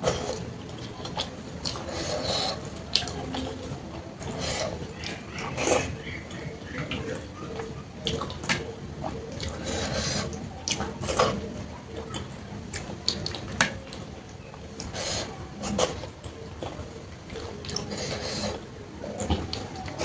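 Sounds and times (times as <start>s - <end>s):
wet chewing and squelching: 0.0s - 20.0s.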